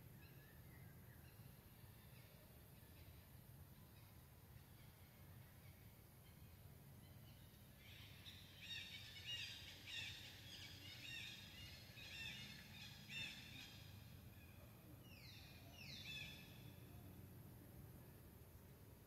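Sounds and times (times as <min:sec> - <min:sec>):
faint birdsong: 0:00.0 - 0:19.0
low steady background hum: 0:00.0 - 0:19.0.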